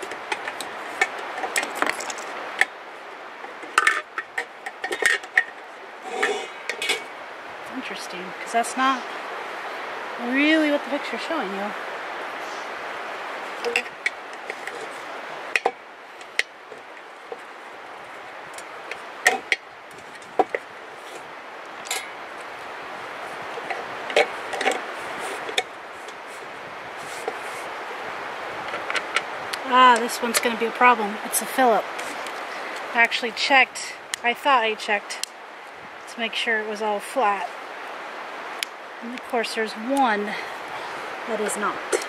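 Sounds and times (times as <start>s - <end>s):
steady hiss: 0.0s - 42.0s.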